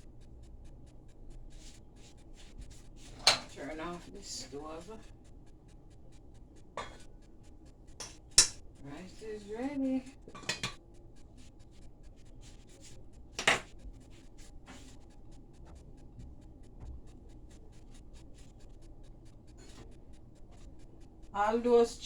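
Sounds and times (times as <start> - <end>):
rapid even ticking: 0.0 - 22.0.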